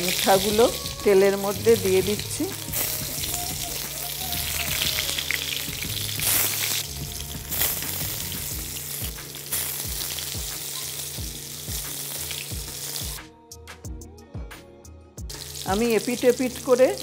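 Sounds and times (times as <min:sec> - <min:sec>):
dumplings sizzling in oil: 0:00.0 - 0:13.2, 0:15.3 - 0:17.0.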